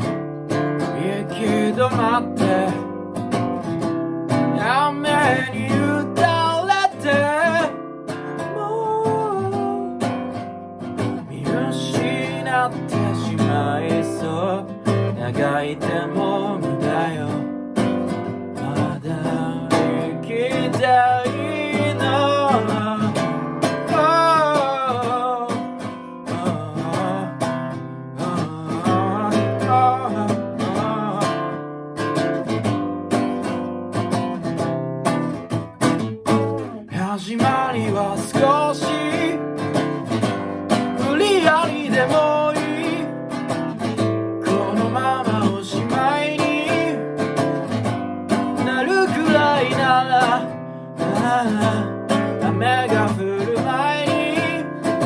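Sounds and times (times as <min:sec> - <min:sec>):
acoustic guitar strummed and picked: 0:00.0 - 0:55.0
person singing wordlessly: 0:00.8 - 0:03.0, 0:04.5 - 0:31.6, 0:36.5 - 0:55.0.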